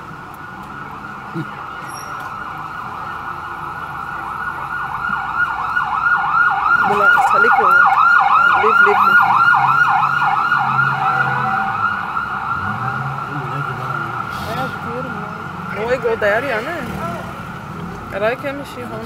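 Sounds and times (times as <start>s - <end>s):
ambulance siren yelping: 0.0s - 17.6s.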